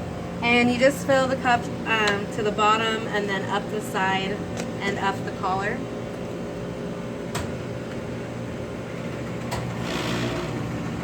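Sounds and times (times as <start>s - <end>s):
kitchen machinery hum: 0.0s - 11.0s.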